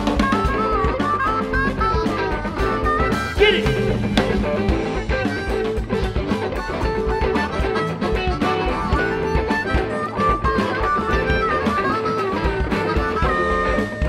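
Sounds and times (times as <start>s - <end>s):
drum kit steady beat: 0.0s - 14.0s
electric guitar: 0.0s - 14.0s
harmonica wailing: 0.0s - 14.0s.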